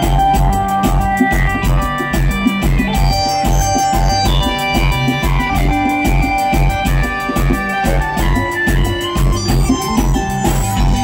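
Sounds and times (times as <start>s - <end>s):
drum kit beat: 0.0s - 11.0s
electric guitars: 0.0s - 11.0s
held keyboard notes: 0.0s - 11.0s.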